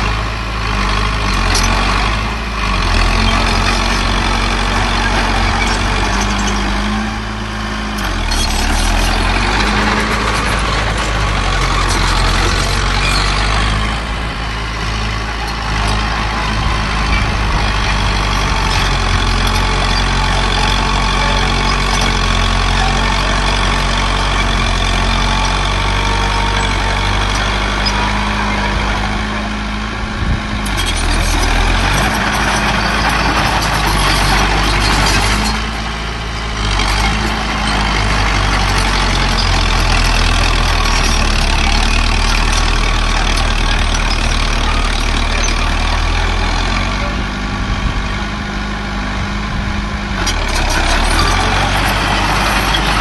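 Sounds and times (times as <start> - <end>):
heavy machinery diesel engines: 0.0 - 53.0.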